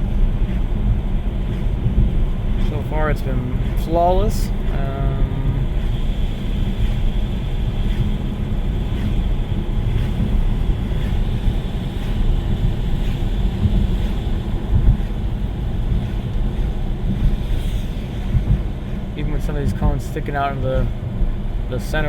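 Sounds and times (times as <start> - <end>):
road and tyre rumble in car: 0.0 - 22.0.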